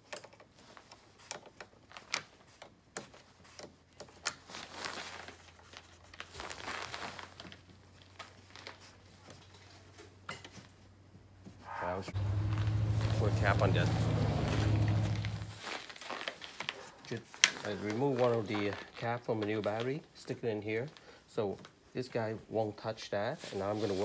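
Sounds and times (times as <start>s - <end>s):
rustling: 0.4s - 22.0s, 23.4s - 24.0s.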